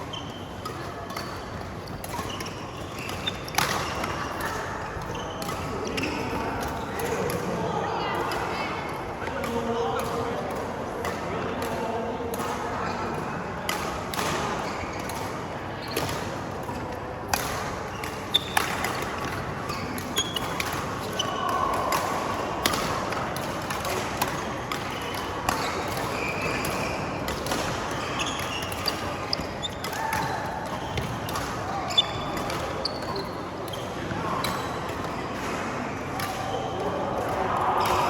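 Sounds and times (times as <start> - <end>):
rackets striking shuttlecock: 0.2 - 7.5, 9.3 - 38.0.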